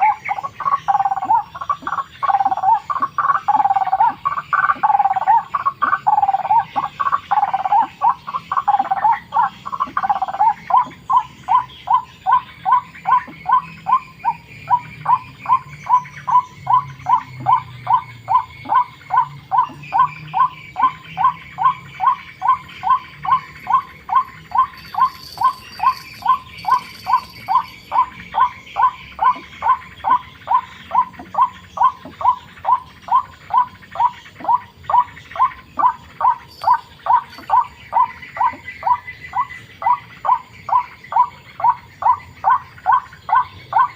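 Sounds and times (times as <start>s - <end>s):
waterhen calling: 0.0s - 43.9s.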